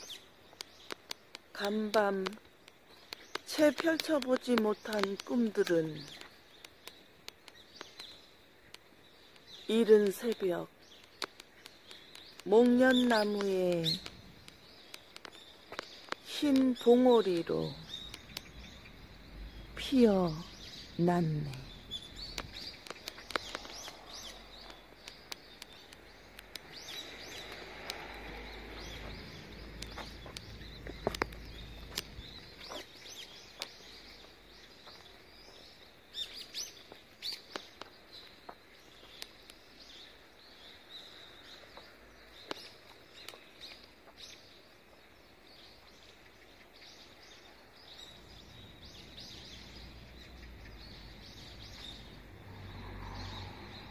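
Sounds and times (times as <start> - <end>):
outdoor background noise: 0.0 - 53.9
small birds chirping: 0.0 - 53.9.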